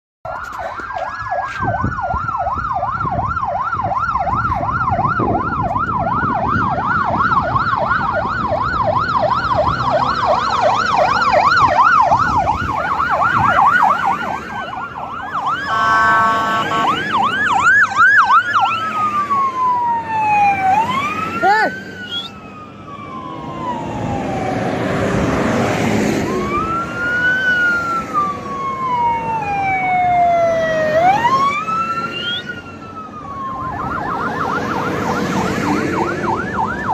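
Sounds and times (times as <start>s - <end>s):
siren steady blaring tone: 0.2s - 36.9s
electronic siren yelping: 0.3s - 36.9s
siren wailing: 0.3s - 36.9s
truck engines running: 0.3s - 36.9s.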